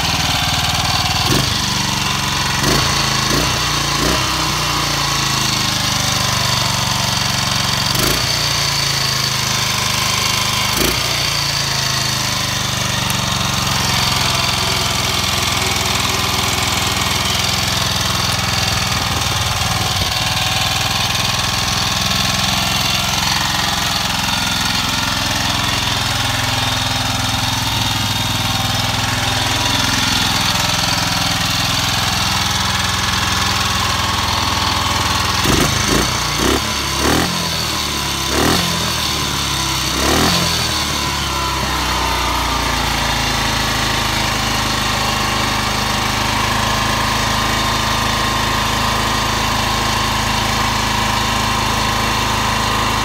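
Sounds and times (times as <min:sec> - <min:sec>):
single-cylinder engine idling: 0:00.0 - 0:53.0.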